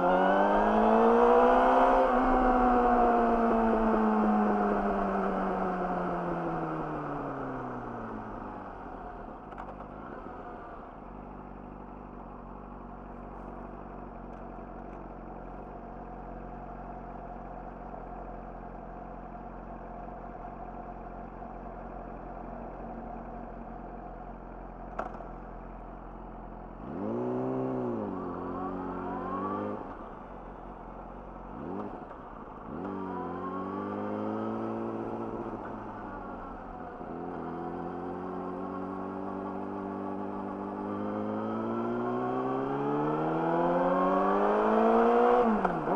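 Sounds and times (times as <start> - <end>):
motorcycle engine idling and revving: 0.0 - 45.9.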